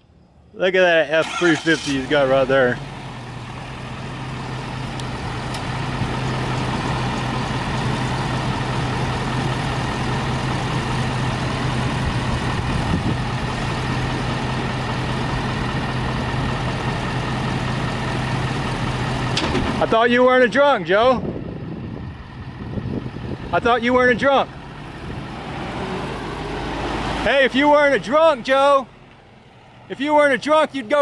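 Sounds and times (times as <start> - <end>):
pickup truck engine humming: 0.0 - 31.0.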